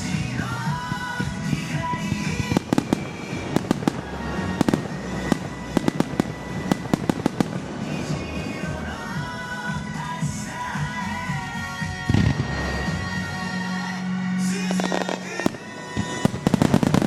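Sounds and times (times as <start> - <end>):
fireworks cracking: 0.0 - 17.0
music playing: 0.0 - 17.0.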